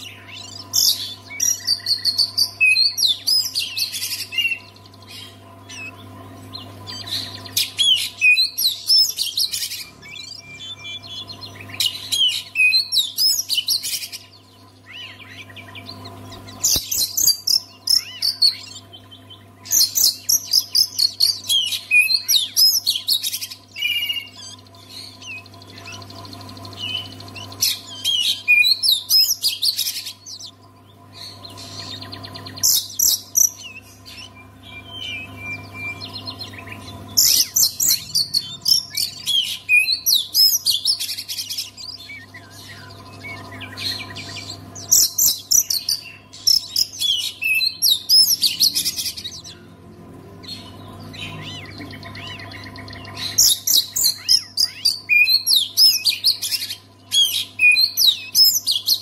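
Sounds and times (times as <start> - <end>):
bird singing whistled phrases: 0.0 - 30.6, 31.4 - 49.7, 50.6 - 59.0
faint low hum: 0.0 - 59.0.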